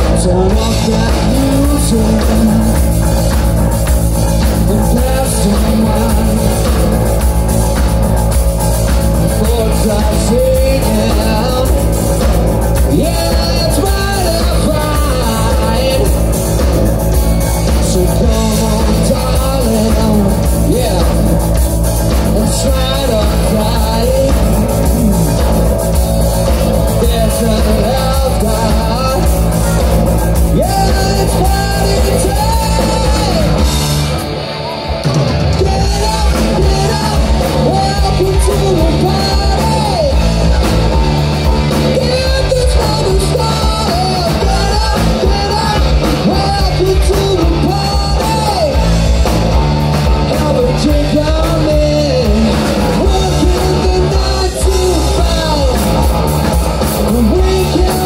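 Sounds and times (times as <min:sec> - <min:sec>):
live rock band: 0:00.0 - 0:58.0
man singing: 0:00.0 - 0:58.0.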